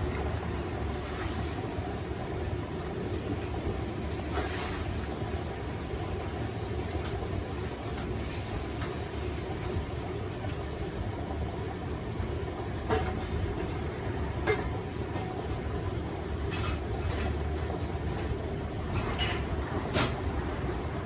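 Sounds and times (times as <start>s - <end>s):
washing machine drum rumbling: 0.0s - 21.0s.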